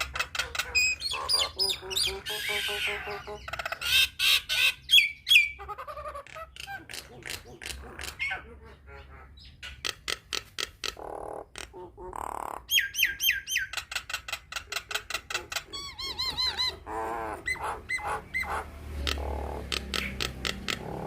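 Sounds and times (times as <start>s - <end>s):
myna calling: 0.0s - 21.0s.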